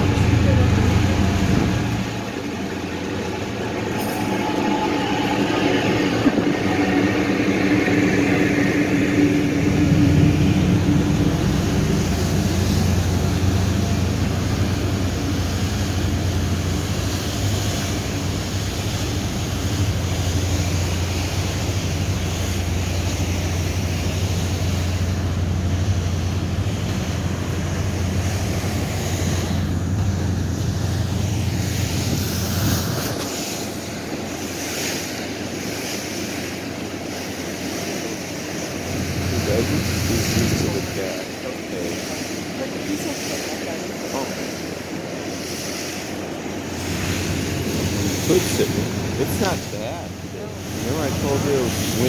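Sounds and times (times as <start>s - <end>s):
low engine hum: 0.0s - 52.0s
water rushing: 0.0s - 52.0s
wind: 0.0s - 52.0s.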